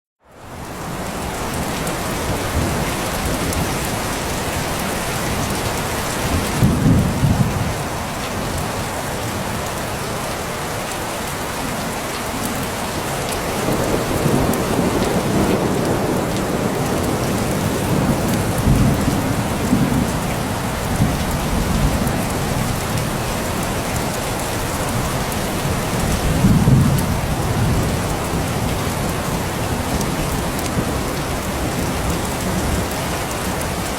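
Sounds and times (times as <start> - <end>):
heavy rain pattering: 0.3 - 33.9
thunder rumbling: 1.4 - 8.9, 13.4 - 33.8.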